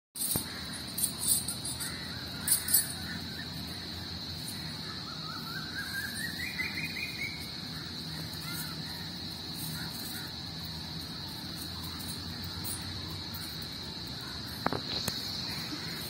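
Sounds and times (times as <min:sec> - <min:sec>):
bird calls: 0:00.2 - 0:16.0
steady high-pitched whine: 0:00.2 - 0:16.0.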